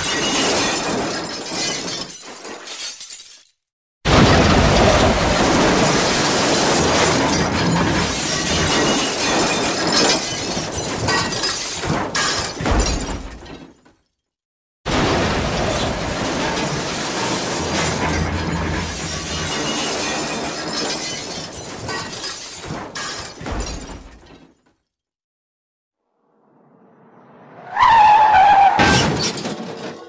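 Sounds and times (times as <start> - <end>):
metal crashing and clanking: 0.0 - 3.2, 4.1 - 13.7, 14.9 - 24.5, 28.4 - 30.0.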